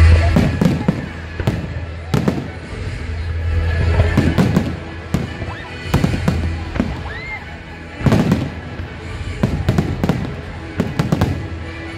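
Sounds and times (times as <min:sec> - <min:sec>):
background music: 0:00.0 - 0:11.9
fireworks bursting: 0:00.0 - 0:11.9.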